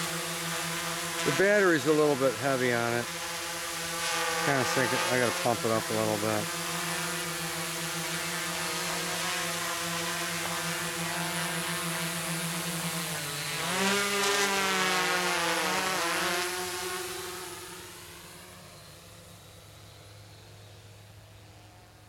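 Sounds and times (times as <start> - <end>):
quadcopter motors humming: 0.0 - 22.0.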